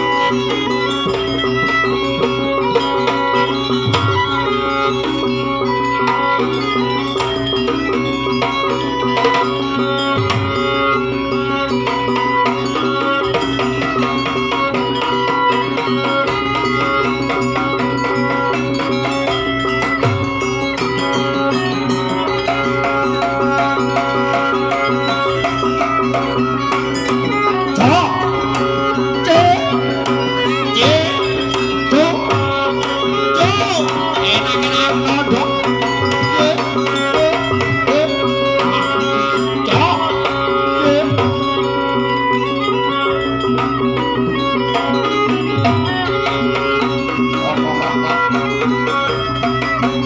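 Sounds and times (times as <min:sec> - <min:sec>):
hand drum beats: 0:00.0 - 0:50.0
tuned percussion ringing: 0:00.0 - 0:50.0.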